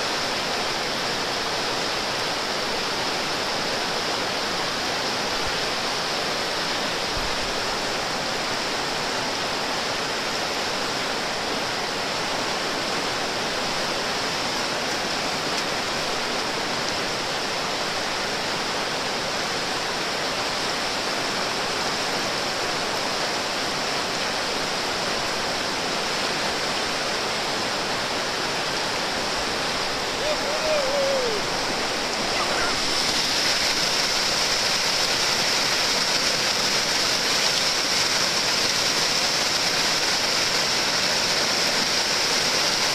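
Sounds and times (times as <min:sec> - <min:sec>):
river rapid rushing: 0:00.0 - 0:42.9.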